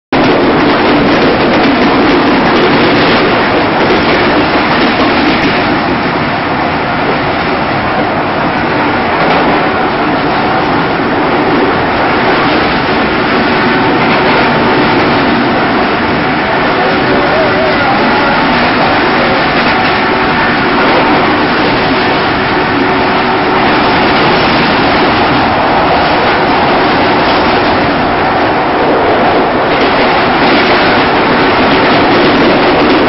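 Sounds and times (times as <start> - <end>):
train wheels rumbling on rails: 0.1 - 33.0.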